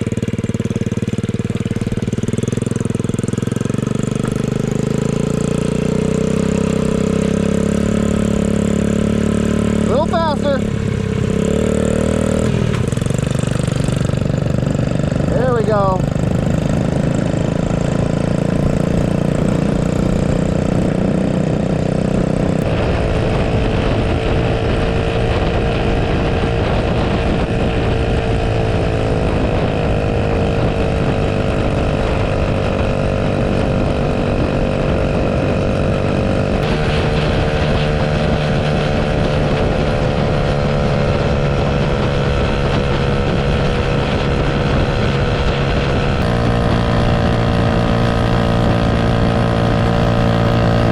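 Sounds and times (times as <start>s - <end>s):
small engine running under load: 0.0s - 50.9s.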